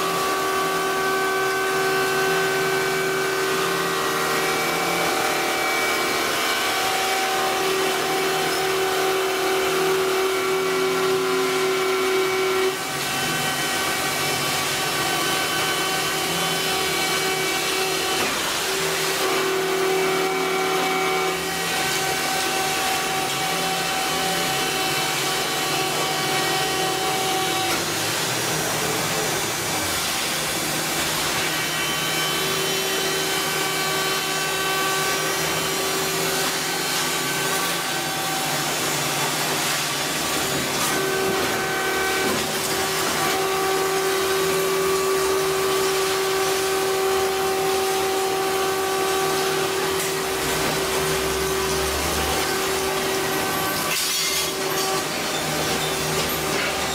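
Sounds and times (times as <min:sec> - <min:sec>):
hydraulic pump whining: 0:00.0 - 0:56.9.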